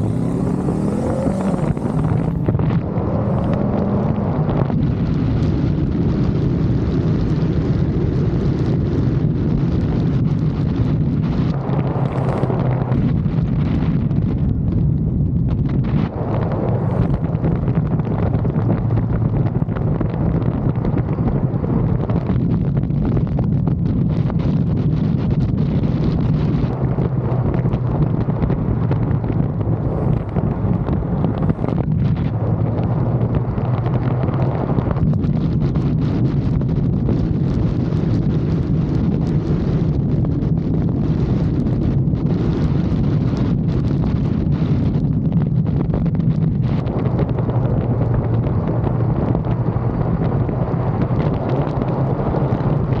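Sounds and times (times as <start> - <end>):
motorcycle engine drone: 0.0 - 53.0
wind buffeting microphone: 0.0 - 53.0.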